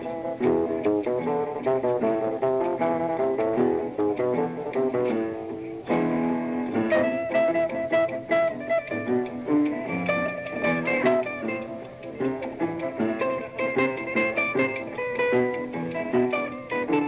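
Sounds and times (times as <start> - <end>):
double bass: 0.0 - 17.0
guitar plucking quick runs: 0.0 - 17.0
piano: 0.0 - 17.0.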